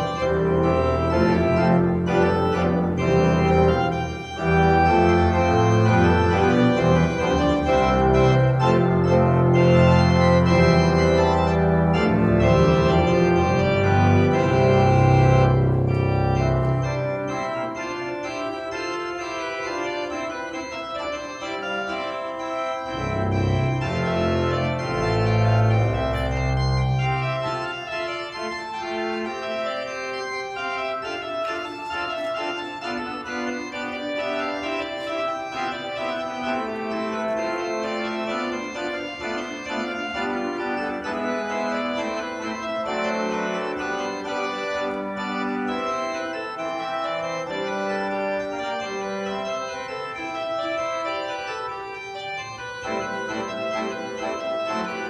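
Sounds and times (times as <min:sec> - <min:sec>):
organ music: 0:00.0 - 0:55.0.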